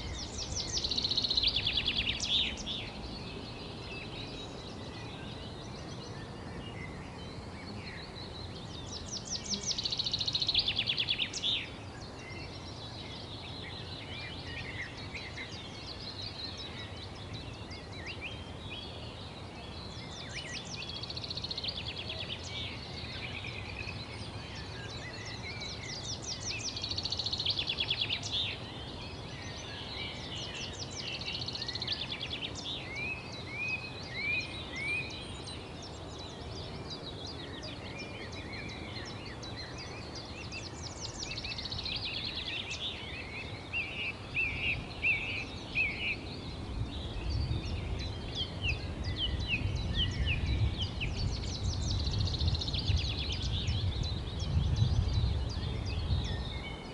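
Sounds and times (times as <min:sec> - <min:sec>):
background hiss: 0:00.0 - 0:56.9
birds chirping and singing: 0:00.0 - 0:56.9
rapid trilling birdsong: 0:00.0 - 0:56.9.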